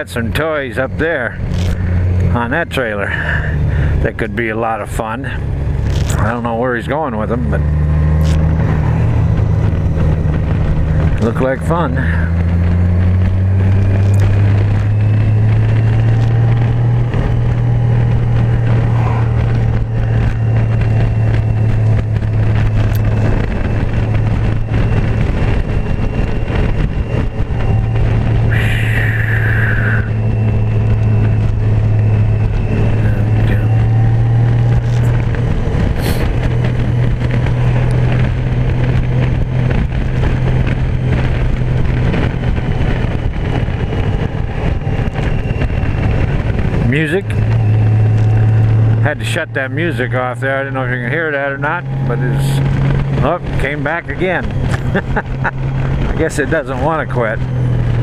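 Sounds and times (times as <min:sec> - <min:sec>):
motorcycle engine cruising: 0:00.0 - 0:58.0
road and wind noise: 0:00.0 - 0:58.0.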